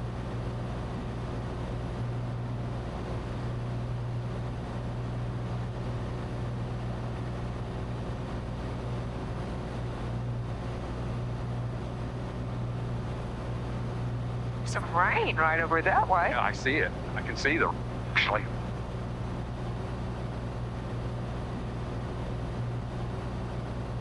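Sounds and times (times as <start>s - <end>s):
aircraft engine and propeller droning: 0.0s - 24.0s.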